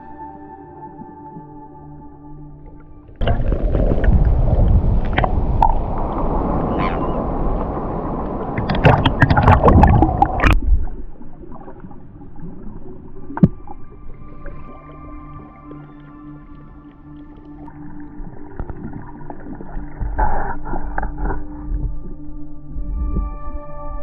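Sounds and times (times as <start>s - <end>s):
water sloshing and splashing: 2.7s - 23.3s
muffled underwater sound: 3.2s - 24.0s.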